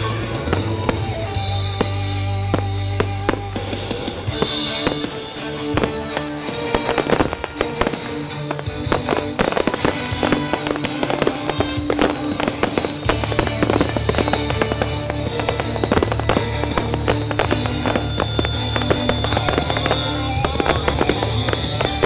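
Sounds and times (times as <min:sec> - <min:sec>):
fireworks bangs and crackles: 0:00.0 - 0:22.0
music soundtrack: 0:00.0 - 0:22.0.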